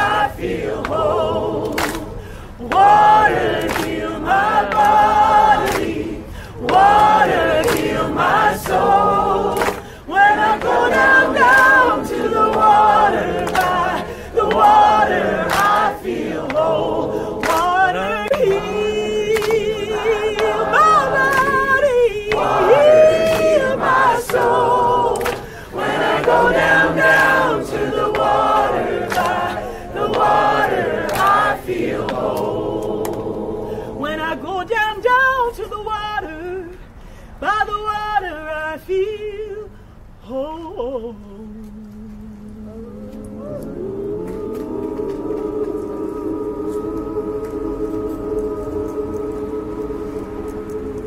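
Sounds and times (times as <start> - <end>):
crowd singing in chorus: 0.0 - 36.4, 42.4 - 51.0.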